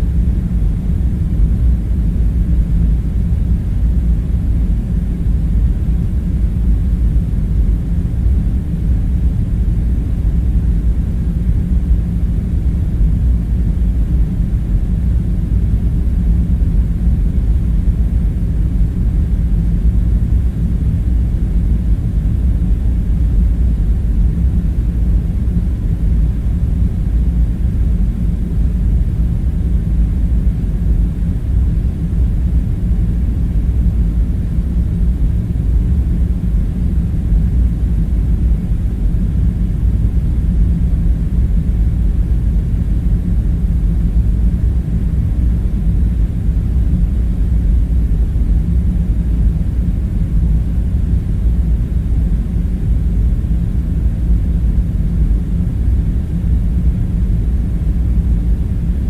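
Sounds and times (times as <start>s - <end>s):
low rumbling room drone: 0.0s - 59.0s.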